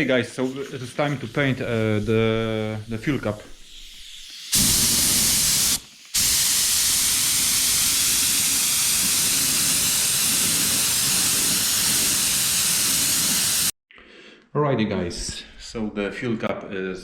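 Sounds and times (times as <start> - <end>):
spray paint hissing: 0.0 - 13.8.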